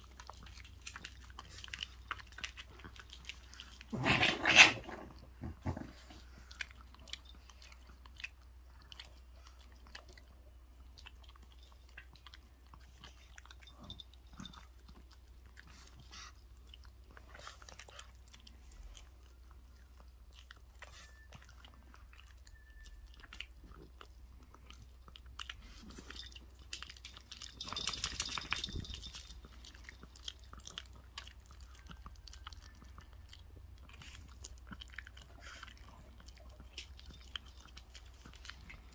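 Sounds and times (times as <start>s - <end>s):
dog chewing raw chicken: 0.0s - 38.9s.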